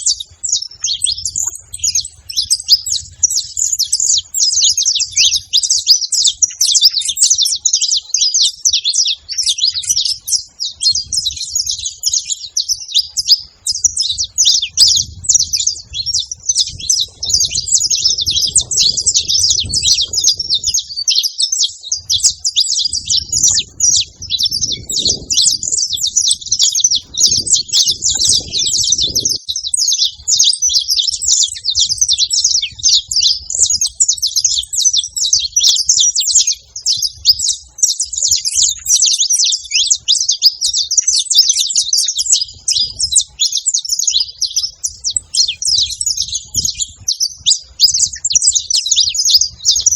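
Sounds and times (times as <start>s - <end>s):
finches chirping: 0.0s - 49.9s.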